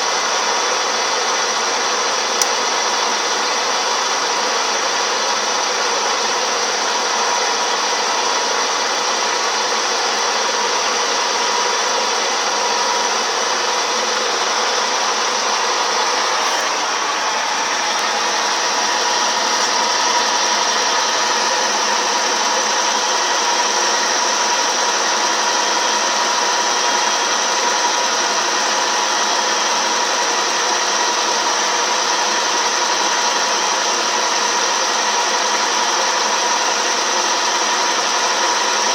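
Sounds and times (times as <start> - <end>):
milling machine cutting metal: 1.9 - 38.9.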